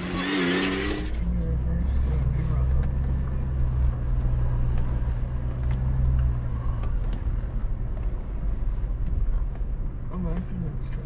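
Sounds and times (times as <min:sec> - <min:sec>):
engine droning at crawling speed: 0:00.0 - 0:11.0.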